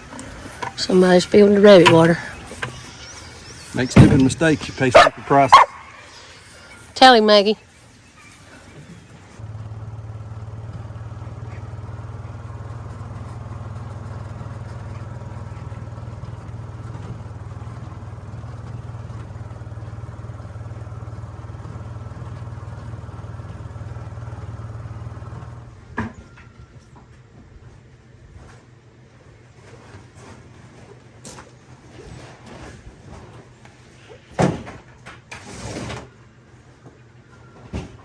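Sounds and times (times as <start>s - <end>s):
engine running steadily: 0.0s - 35.2s.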